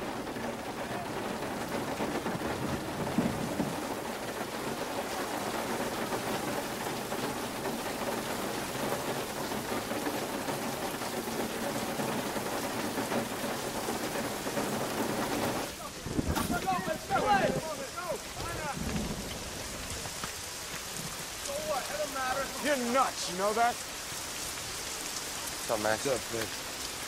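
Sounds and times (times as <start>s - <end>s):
rain pattering on a car: 0.0s - 27.0s.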